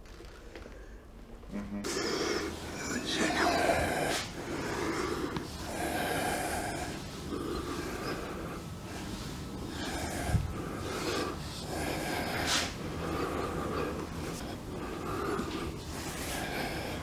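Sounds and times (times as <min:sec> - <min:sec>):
person breathing heavily: 0:00.5 - 0:17.0.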